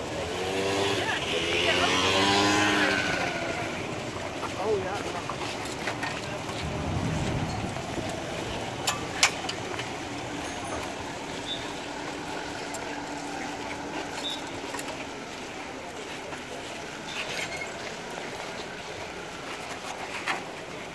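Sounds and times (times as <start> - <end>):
tram rolling on rails: 1.9 - 20.9.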